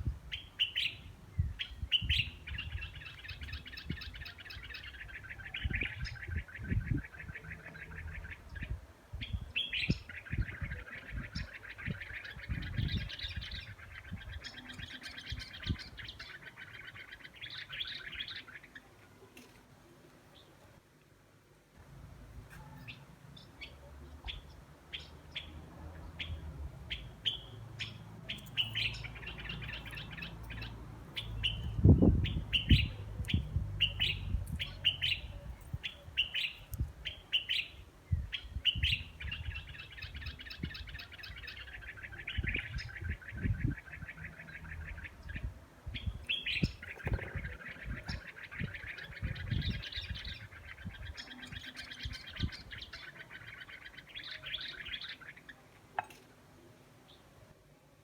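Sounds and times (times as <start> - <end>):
bird chirping and trilling: 0.3 - 18.9, 22.5 - 56.1.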